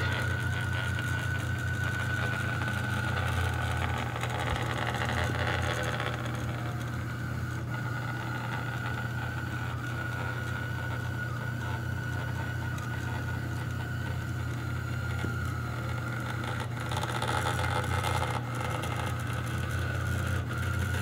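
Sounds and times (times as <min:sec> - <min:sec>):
printer motors humming: 0:00.0 - 0:21.0
thin high whine: 0:00.0 - 0:21.0.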